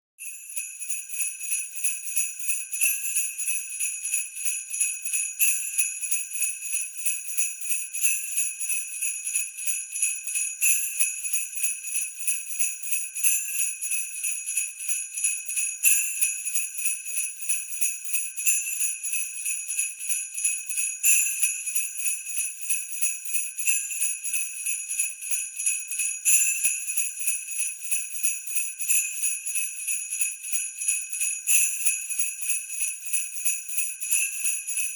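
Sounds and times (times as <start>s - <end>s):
sleigh bells jingling: 0.2s - 34.9s.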